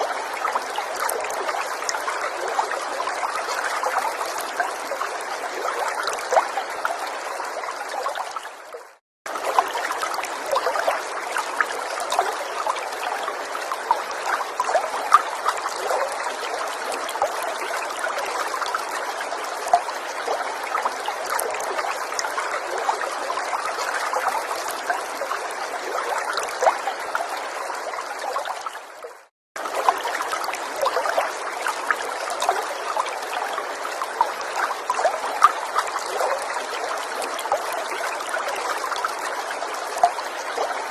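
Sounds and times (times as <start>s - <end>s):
forest stream trickling: 0.0s - 40.9s.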